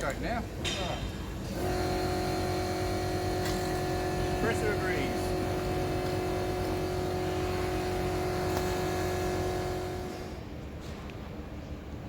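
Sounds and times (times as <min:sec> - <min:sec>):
motor running steadily: 0:00.4 - 0:10.6.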